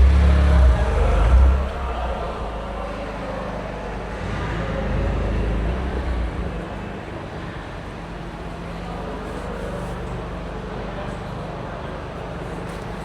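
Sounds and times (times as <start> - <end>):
car engine rumbling: 0.0 - 10.7
steady traffic noise: 0.0 - 13.0.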